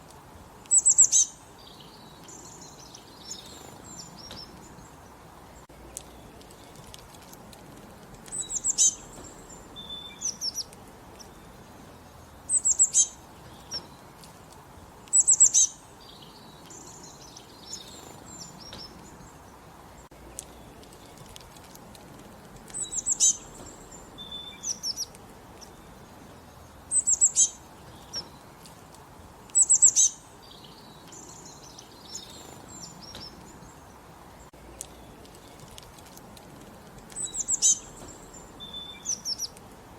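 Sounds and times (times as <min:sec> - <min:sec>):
birds singing: 0:00.0 - 0:39.9
faint steady hiss: 0:00.0 - 0:39.9
soft bird chirps: 0:00.0 - 0:39.9.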